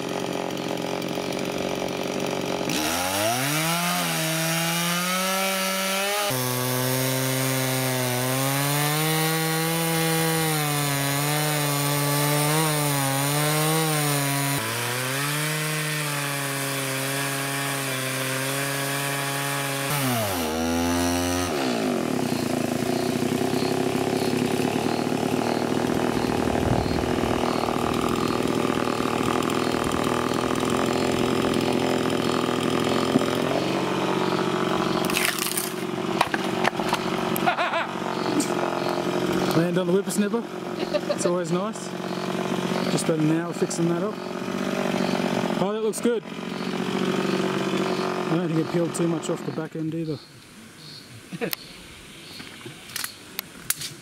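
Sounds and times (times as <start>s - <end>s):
chainsaw cutting wood: 0.0s - 49.8s, 52.9s - 54.0s
rough sawing noise: 0.0s - 49.9s.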